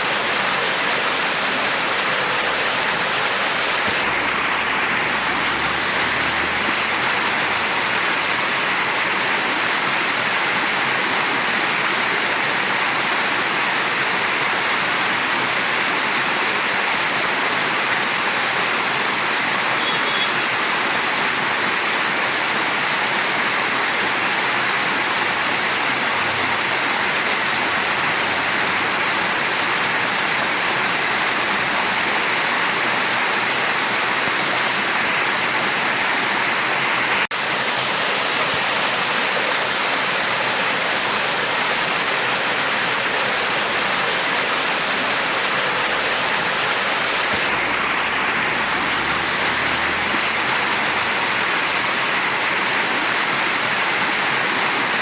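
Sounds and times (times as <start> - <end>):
stream rushing: 0.0 - 55.0.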